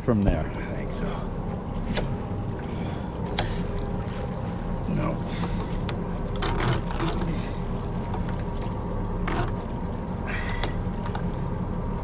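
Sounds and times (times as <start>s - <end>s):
fishing boat engine hum: 0.0s - 12.0s.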